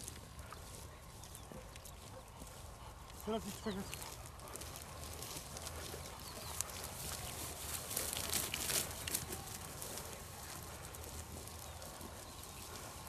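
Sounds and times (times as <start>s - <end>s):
footsteps through dry vegetation: 0.0s - 13.0s.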